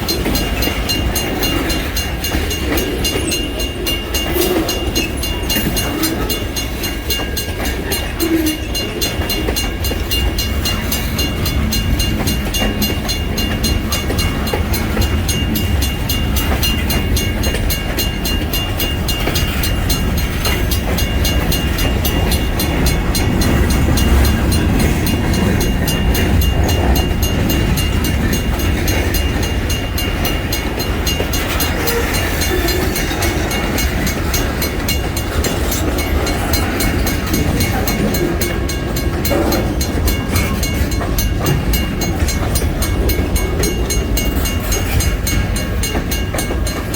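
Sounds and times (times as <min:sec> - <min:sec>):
crossing bell ringing: 0:00.0 - 0:46.9
train wheels rumbling on rails: 0:00.0 - 0:46.9.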